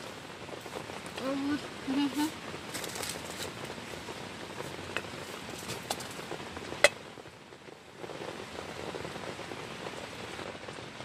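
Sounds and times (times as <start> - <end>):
heavy rain on a tent: 0.0 - 11.0.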